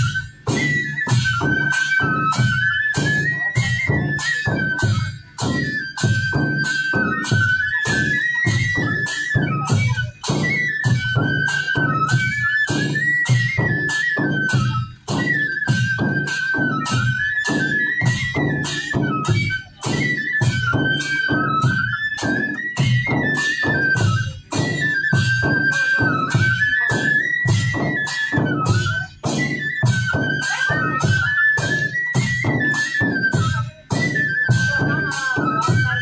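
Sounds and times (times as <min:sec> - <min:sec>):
drums beaten with sticks: 0:00.0 - 0:36.0
flute melody: 0:00.0 - 0:36.0.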